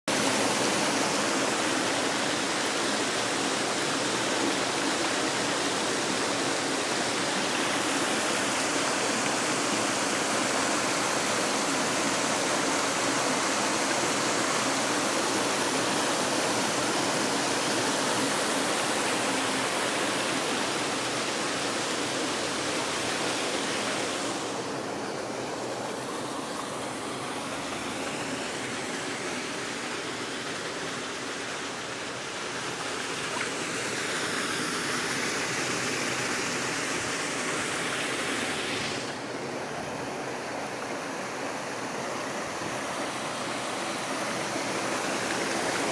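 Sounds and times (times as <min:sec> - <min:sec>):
storm water rushing through drain: 0:00.1 - 0:45.9
water flowing along gutter: 0:00.1 - 0:45.9.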